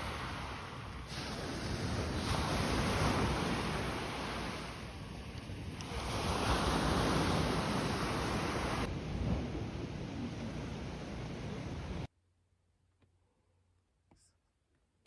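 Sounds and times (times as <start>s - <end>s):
sea waves washing ashore: 0.0s - 12.1s
wind buffeting microphone: 0.0s - 12.1s.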